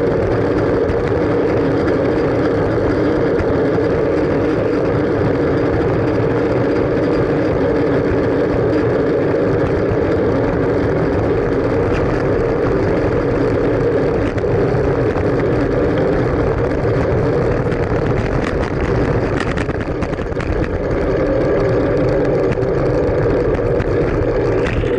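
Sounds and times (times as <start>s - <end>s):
road rumble: 0.0s - 24.9s
wind rush on microphone: 0.0s - 24.9s.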